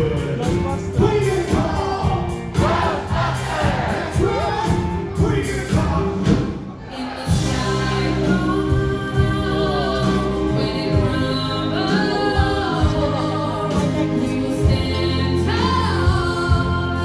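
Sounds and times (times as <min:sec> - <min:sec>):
instrumental accompaniment: 0:00.0 - 0:17.0
voices singing in harmony: 0:00.0 - 0:17.0.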